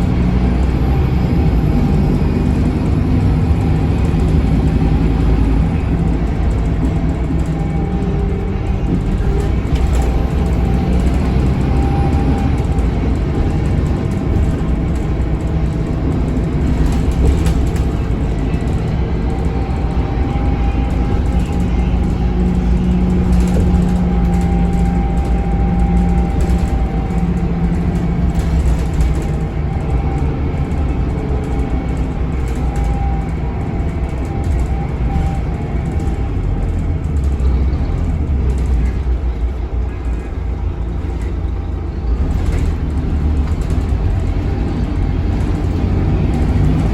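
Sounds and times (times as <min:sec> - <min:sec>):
bus diesel engine droning: 0:00.0 - 0:46.9
road noise: 0:00.0 - 0:46.9.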